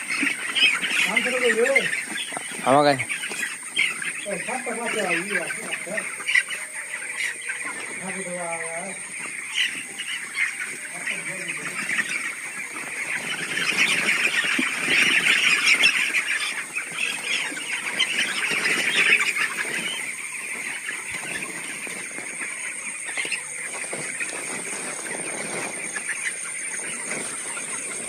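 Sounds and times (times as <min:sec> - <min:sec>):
chickens cheeping: 0:00.0 - 0:28.0.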